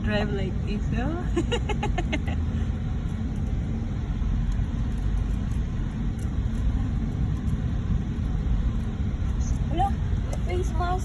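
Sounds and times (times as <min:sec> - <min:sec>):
car tyres and engine rumble: 0:00.0 - 0:11.0.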